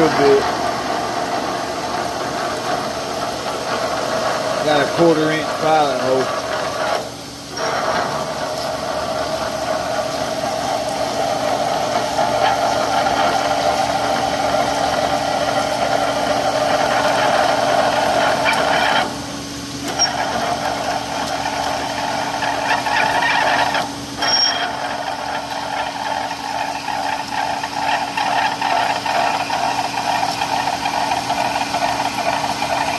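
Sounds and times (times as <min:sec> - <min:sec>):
rapid rattle: 0:00.0 - 0:19.1, 0:19.8 - 0:32.9
lathe drilling with grinding: 0:00.0 - 0:32.9.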